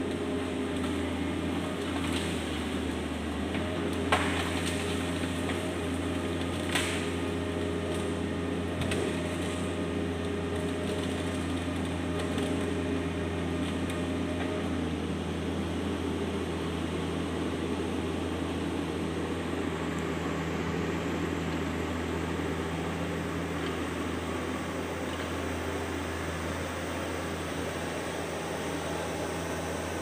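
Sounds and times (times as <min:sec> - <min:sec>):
excavator diesel engine droning: 0:00.0 - 0:30.0.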